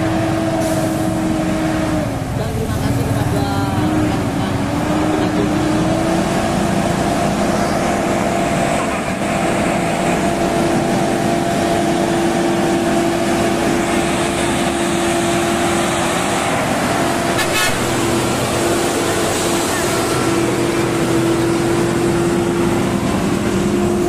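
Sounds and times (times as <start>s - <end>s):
diesel truck engine droning uphill: 0.0s - 24.0s.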